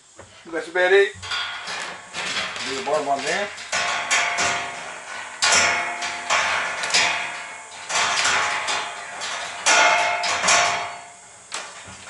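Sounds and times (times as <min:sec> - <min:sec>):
wire slapping with ringing knocks: 0:01.2 - 0:12.0.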